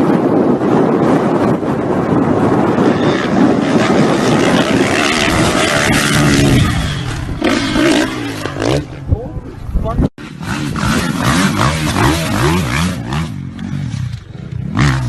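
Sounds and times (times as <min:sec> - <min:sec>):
dirt bike engine running: 0:00.0 - 0:09.2, 0:10.2 - 0:15.0
wind noise: 0:00.0 - 0:15.0.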